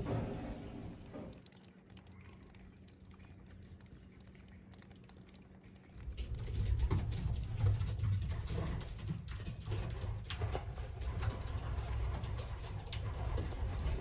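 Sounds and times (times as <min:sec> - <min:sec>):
pigeons ticking and scratching: 0:00.8 - 0:14.0.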